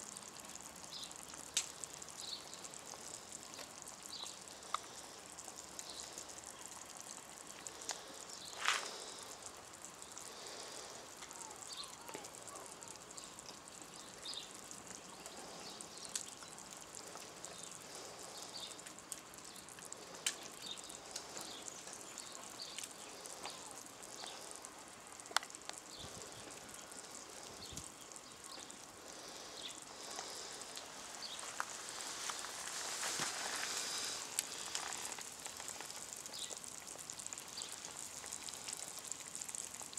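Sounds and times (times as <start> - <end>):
stew bubbling in pot: 0.0 - 39.9
wood fire crackling: 0.0 - 39.9.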